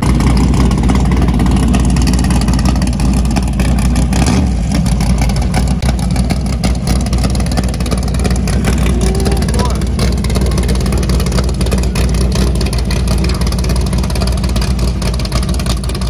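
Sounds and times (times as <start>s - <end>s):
car engine idling loudly: 0.0s - 16.0s.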